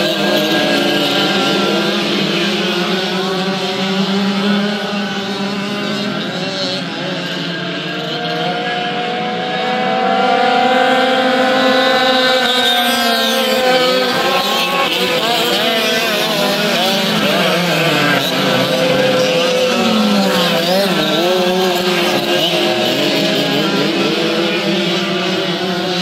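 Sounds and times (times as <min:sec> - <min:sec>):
kart engines racing: 0:00.0 - 0:26.0.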